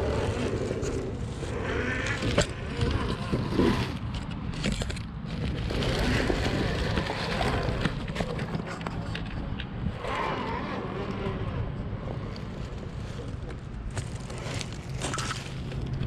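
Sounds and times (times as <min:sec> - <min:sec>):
gravel crunching under tires: 0:00.0 - 0:16.0
wind on microphone: 0:00.0 - 0:16.0.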